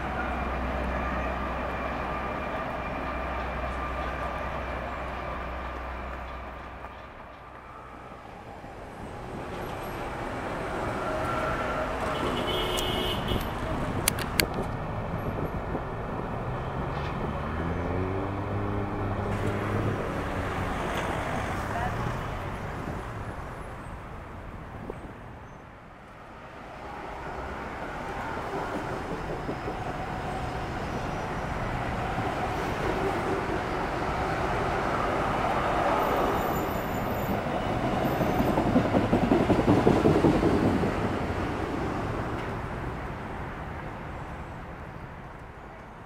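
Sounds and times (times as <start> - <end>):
electric train humming over viaduct: 0.0 - 46.0.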